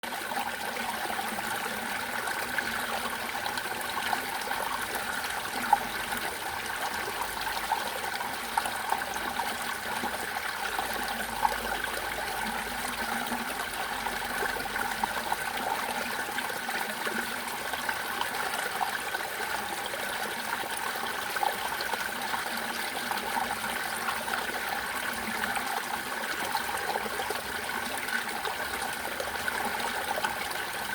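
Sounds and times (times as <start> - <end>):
water flowing and trickling: 0.0 - 30.9.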